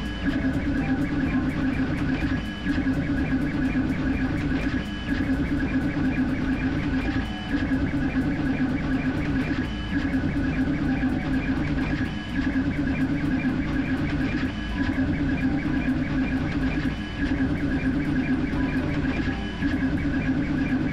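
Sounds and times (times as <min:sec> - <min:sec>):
fans humming: 0:00.0 - 0:20.9
stepper motors whining: 0:00.0 - 0:20.9.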